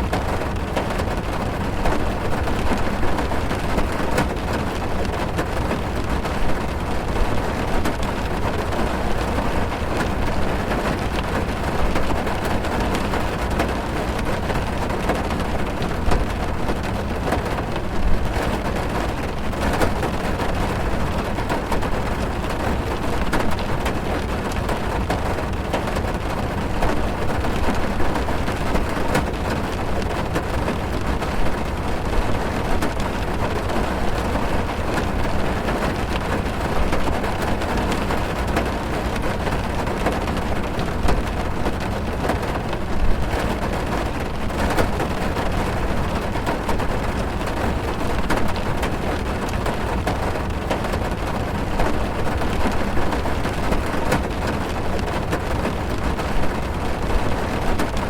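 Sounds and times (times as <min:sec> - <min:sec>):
rain drumming on car roof: 0:00.0 - 0:58.0.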